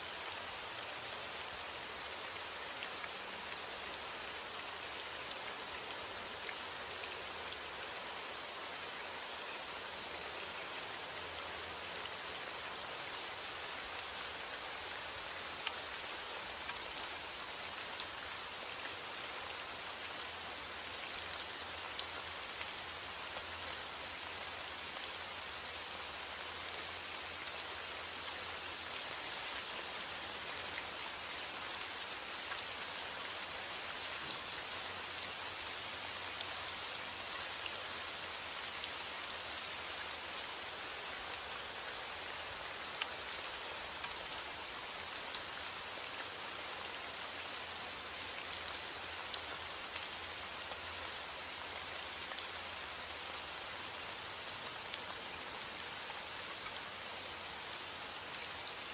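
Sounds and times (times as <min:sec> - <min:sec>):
rain falling on a surface: 0:00.0 - 0:58.9.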